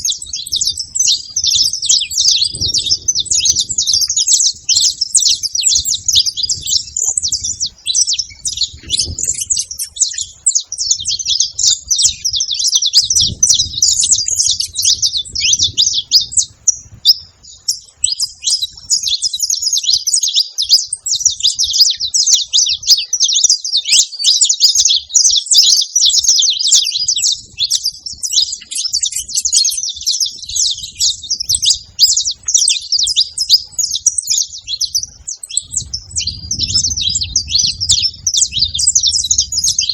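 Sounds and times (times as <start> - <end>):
finch singing rapid chirps: 0.0 - 39.9.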